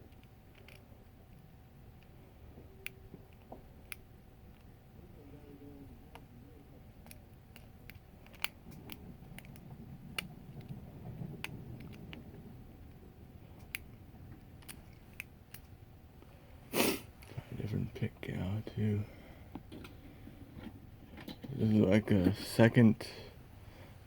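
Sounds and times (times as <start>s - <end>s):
faint handling rumble: 0.0s - 24.0s.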